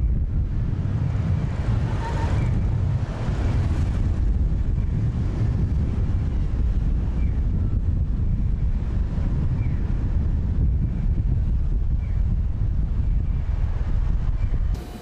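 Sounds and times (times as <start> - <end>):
city traffic rumble: 0.0 - 15.0
wind buffeting microphone: 0.0 - 15.0.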